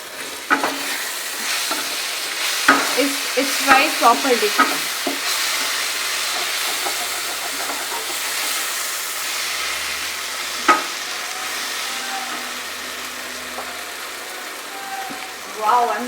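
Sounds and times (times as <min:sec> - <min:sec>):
sauce sizzling in a pan: 0:00.0 - 0:16.0.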